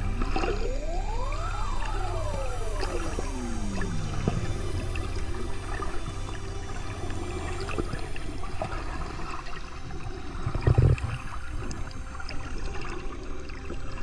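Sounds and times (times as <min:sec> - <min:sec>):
water sloshing and gurgling: 0:00.0 - 0:14.0.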